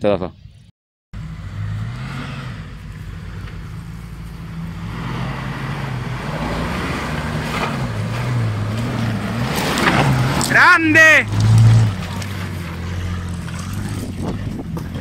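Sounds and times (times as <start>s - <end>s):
engine running: 1.2s - 15.0s.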